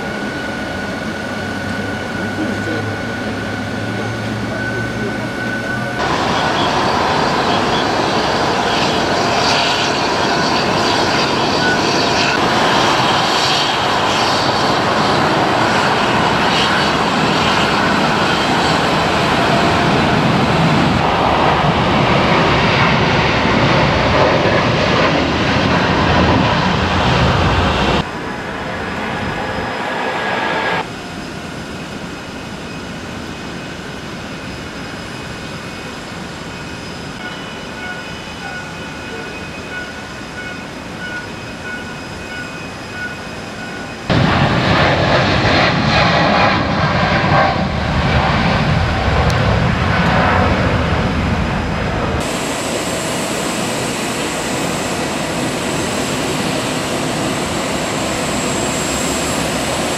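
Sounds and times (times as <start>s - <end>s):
high-pitched jet whine: 0.0s - 59.9s
jet airliner rumble: 0.0s - 59.9s.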